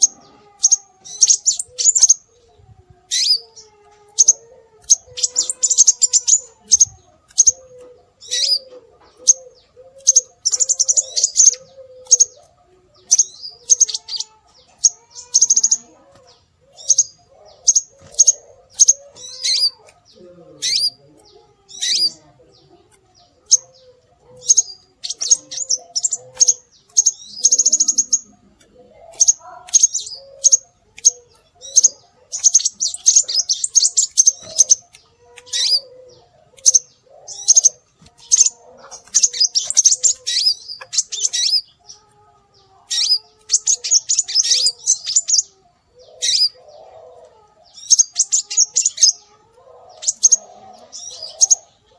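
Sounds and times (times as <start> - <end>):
bird high chirps and trills: 0.0 - 51.9.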